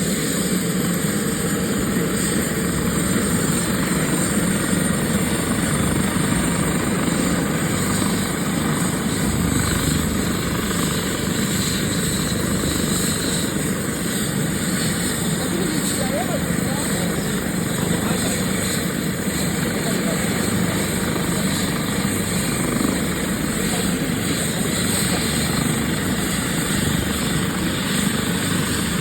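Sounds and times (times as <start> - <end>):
helicopter rotor noise: 0.0 - 29.0
turbine whine: 0.0 - 29.0.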